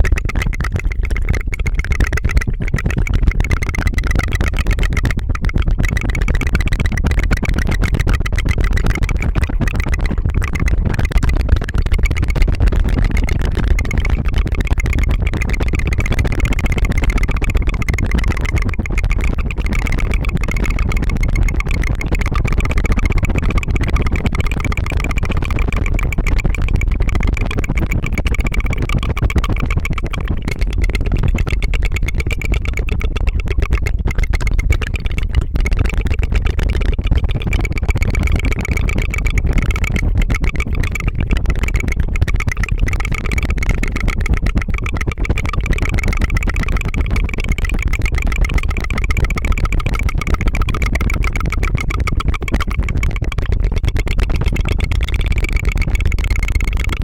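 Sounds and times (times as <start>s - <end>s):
tongue fluttering trill: 0.0s - 57.0s.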